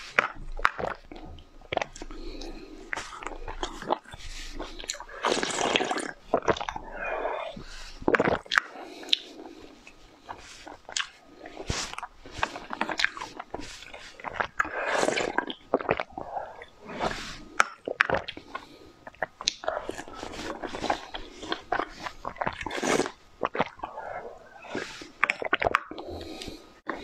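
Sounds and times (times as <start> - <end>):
chewing and crunching: 0.0 - 27.0
sucking and slurping candy: 0.0 - 27.0.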